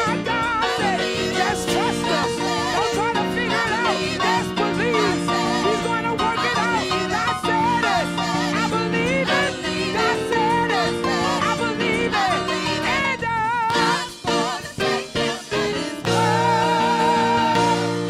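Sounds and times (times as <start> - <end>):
backing singers: 0.0 - 18.0
lead singer with vibrato: 0.0 - 18.0
music accompaniment: 0.0 - 18.0.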